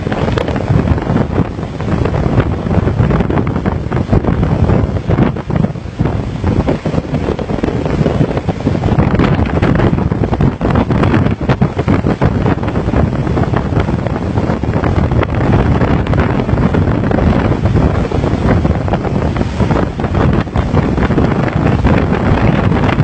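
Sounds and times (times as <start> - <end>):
heavy seas rushing: 0.0 - 23.0
wind buffeting microphone: 0.0 - 23.0.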